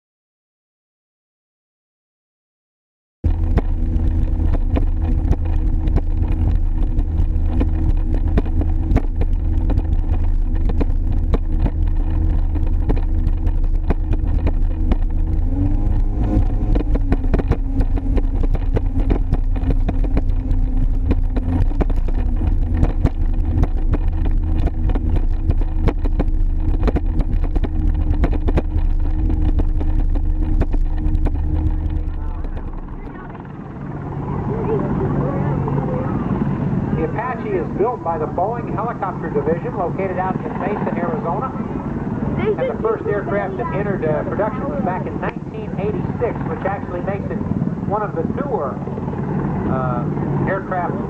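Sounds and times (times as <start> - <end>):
watercraft engine running: 3.2 - 51.0
water and wind noise: 3.3 - 51.0.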